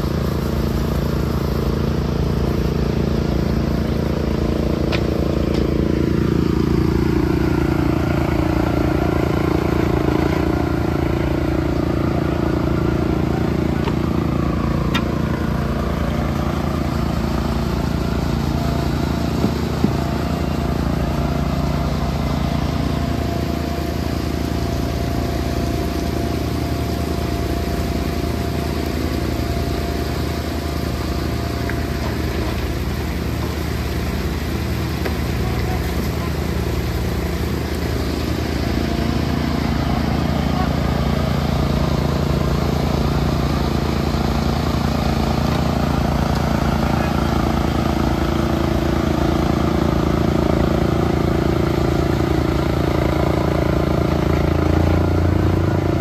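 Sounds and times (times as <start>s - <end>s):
concrete pump engine running: 0.0s - 56.0s.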